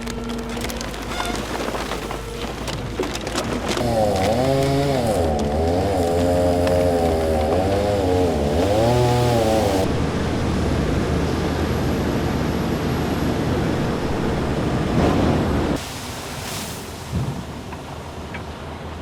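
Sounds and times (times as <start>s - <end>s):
engine running: 0.0s - 15.8s
rough mechanical noise: 0.0s - 15.8s.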